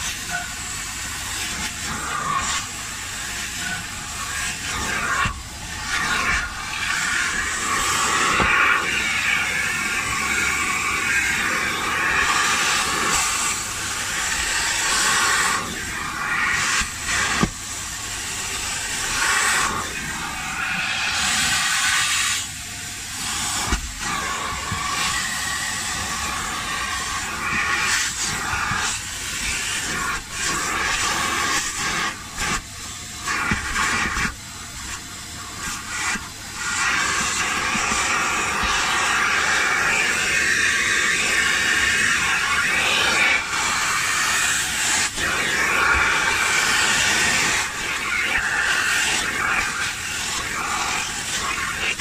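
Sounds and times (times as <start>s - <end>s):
carpet cleaner suction hiss: 0.0s - 52.0s.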